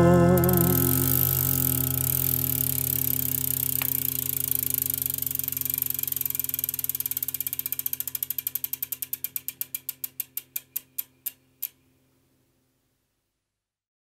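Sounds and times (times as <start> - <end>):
bicycle freewheel ticking: 0.0 - 11.8.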